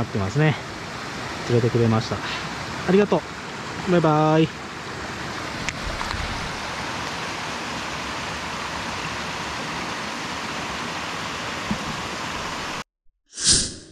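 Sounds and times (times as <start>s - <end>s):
stream running over rocks: 0.1s - 12.8s.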